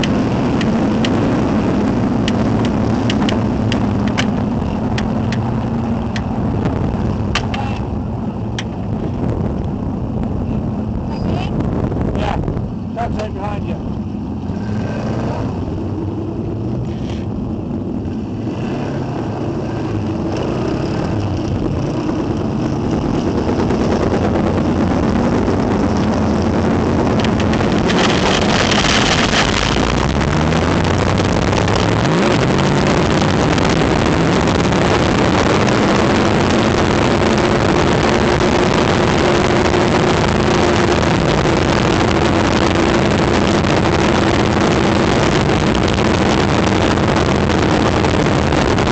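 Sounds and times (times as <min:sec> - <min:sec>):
race car engine drone: 0:00.0 - 0:48.9
wind rushing: 0:00.0 - 0:48.9.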